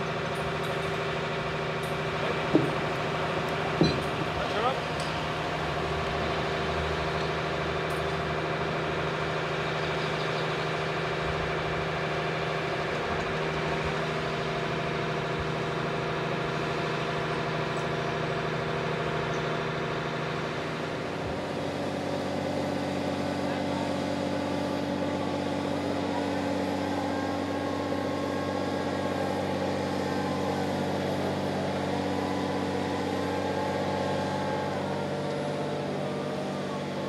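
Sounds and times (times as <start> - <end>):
crane diesel engine running: 0.0 - 37.0.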